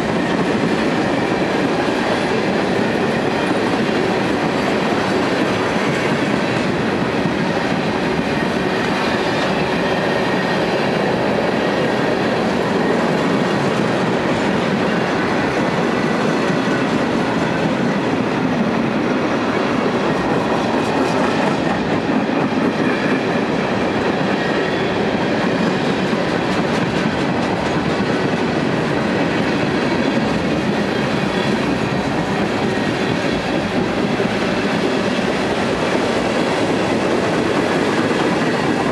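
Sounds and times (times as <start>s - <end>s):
train wheels on rail: 0.0s - 38.9s.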